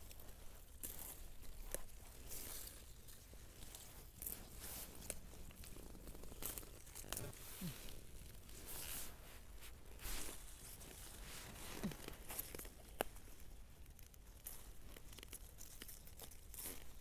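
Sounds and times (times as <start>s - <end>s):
leaves and stems rustling: 0.0s - 17.0s.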